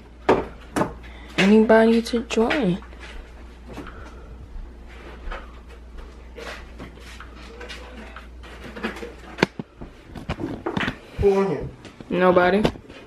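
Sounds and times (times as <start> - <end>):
faint household sounds: 0.0 - 13.0.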